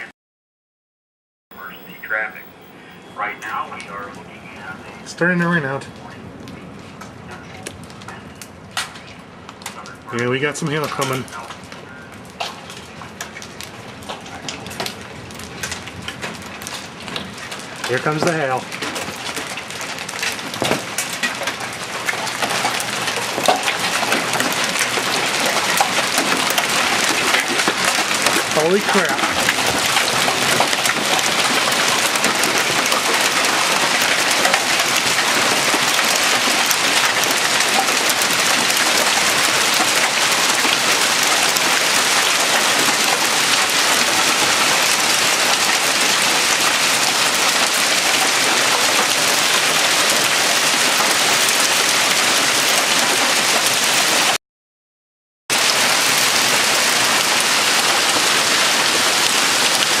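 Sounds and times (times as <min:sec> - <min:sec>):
hail and rain pelting: 0:01.6 - 0:54.4, 0:55.5 - 1:00.0.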